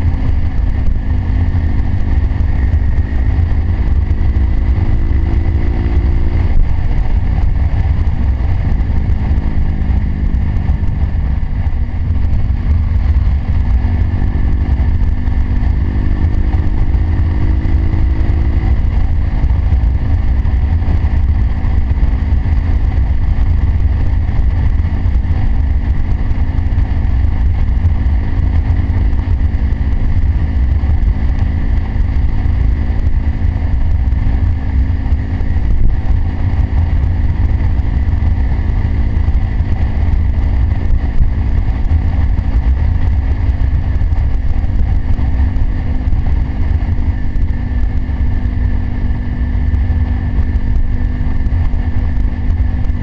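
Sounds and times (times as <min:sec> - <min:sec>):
motorcycle engine running: 0:00.0 - 0:53.0
wind rumble on microphone: 0:00.0 - 0:53.0.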